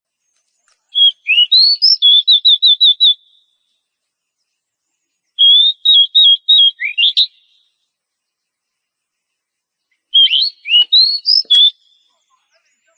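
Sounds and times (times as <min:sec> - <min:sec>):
bird whistled song: 0:00.1 - 0:08.8, 0:09.8 - 0:12.9.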